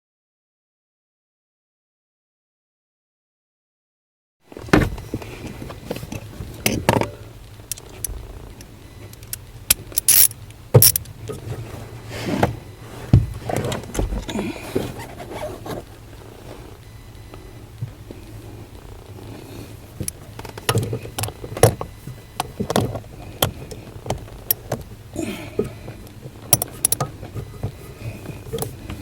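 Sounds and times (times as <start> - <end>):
low engine hum: 4.4 - 29.0
steering shaft clunking: 4.5 - 29.0.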